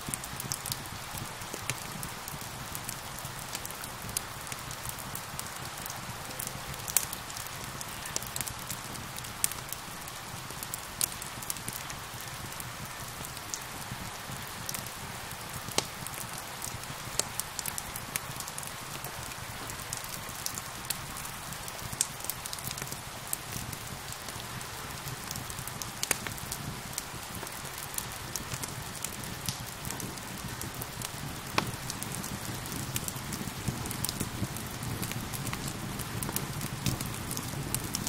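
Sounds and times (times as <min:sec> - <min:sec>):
steady rain hiss: 0:00.0 - 0:38.0
wood fire crackling and popping: 0:00.0 - 0:38.0.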